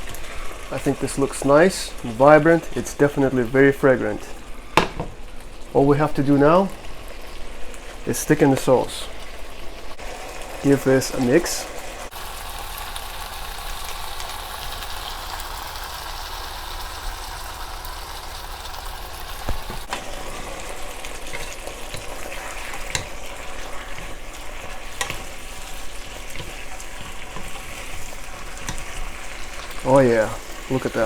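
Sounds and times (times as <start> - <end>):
food sizzling in a wok: 0.0 - 5.8, 6.6 - 31.0.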